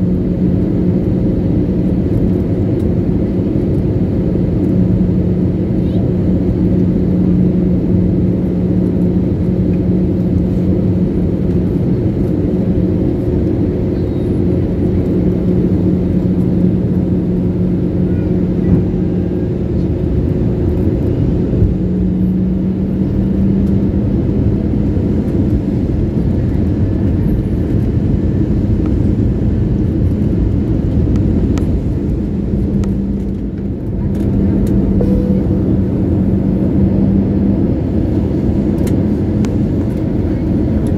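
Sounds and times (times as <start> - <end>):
airliner engine drone: 0.0 - 40.9.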